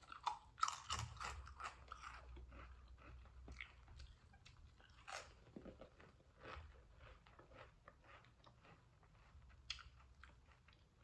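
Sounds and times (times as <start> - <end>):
chip crunching between teeth: 0.0 - 11.0.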